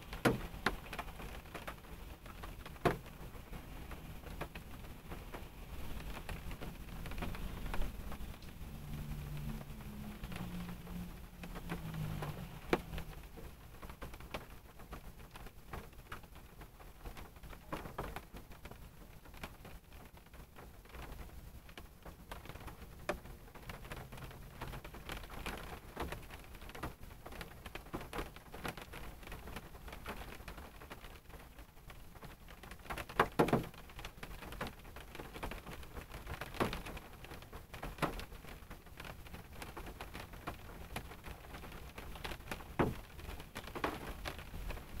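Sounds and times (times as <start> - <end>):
raindrops tapping on a car: 0.0 - 45.0.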